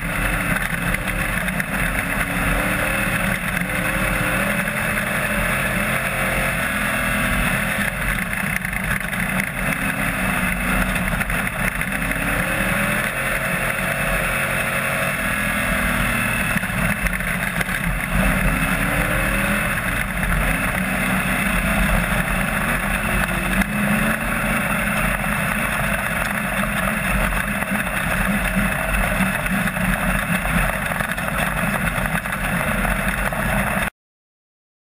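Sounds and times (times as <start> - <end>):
race car engine running hard: 0.0 - 33.9.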